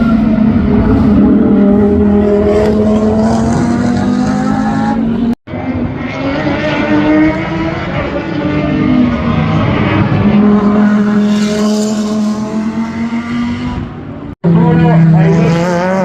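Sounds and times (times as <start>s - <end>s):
racing car engines: 0.0s - 16.0s.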